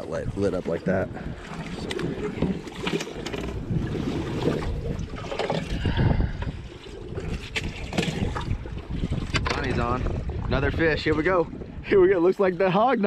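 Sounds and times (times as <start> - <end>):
water lapping against boat hull: 0.0 - 13.0
wind buffeting microphone: 0.0 - 13.0.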